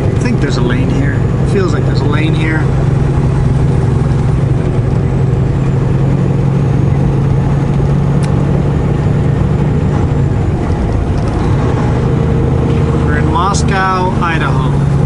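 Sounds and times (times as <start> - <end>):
truck diesel engine hum: 0.0 - 15.0.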